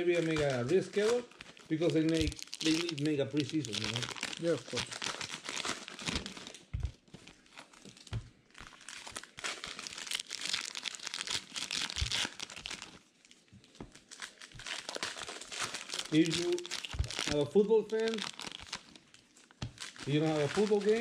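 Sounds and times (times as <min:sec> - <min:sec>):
card wrappers crinkling and tearing: 0:00.0 - 0:21.0.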